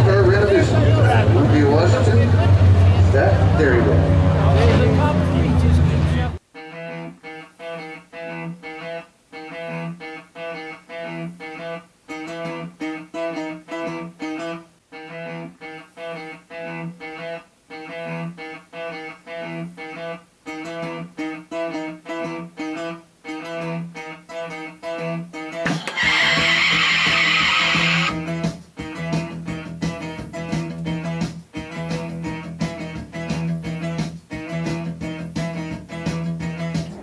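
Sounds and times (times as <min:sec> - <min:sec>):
guitar picking plucked notes: 0:00.0 - 0:37.0.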